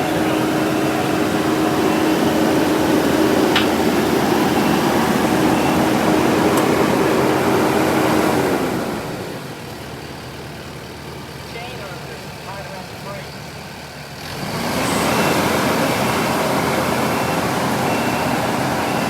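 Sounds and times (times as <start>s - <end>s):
large vehicle engine running: 0.0s - 19.0s.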